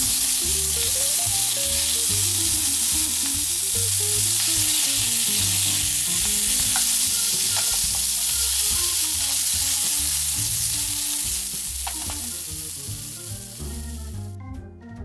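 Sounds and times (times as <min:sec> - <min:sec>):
sausages sizzling in a frying pan: 0:00.0 - 0:13.9
background music with low bass: 0:00.0 - 0:15.0.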